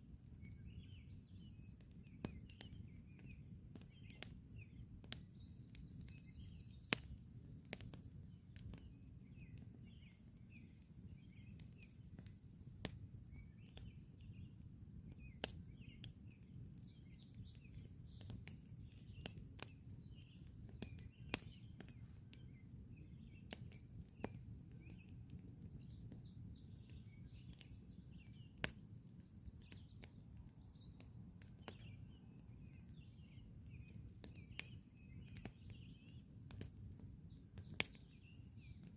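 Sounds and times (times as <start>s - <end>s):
campfire crackling and popping: 0.0s - 38.9s
small birds chirping: 0.3s - 38.9s.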